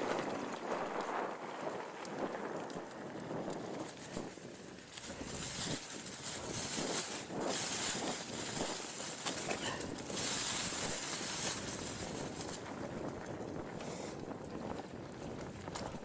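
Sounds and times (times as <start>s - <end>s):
bike rattling and knocking: 0.0s - 16.0s
bike tyres on dirt: 0.0s - 16.0s
wind on microphone: 0.0s - 16.0s.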